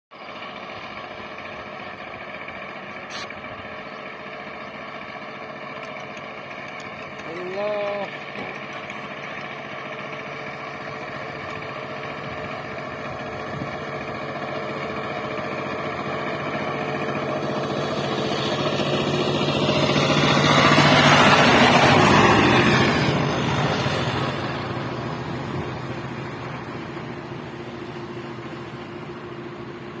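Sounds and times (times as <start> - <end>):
power tiller engine running: 0.2 - 30.0.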